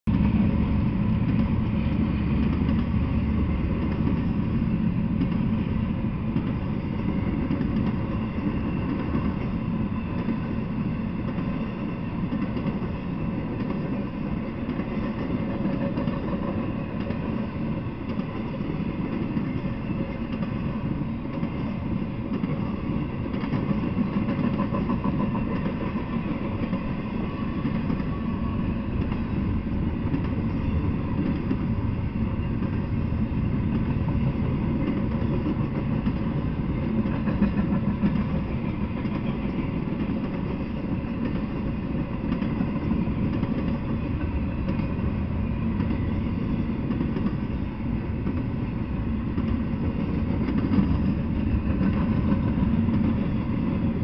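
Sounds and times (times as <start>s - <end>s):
train wheels rolling on rails: 0.1s - 54.0s.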